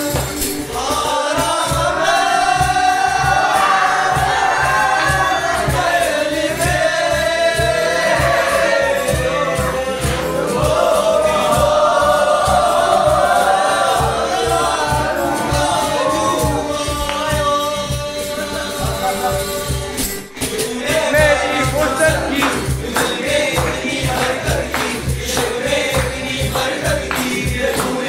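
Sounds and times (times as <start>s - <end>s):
song with steady beat: 0.0s - 28.0s
young men singing in chorus: 0.0s - 28.0s.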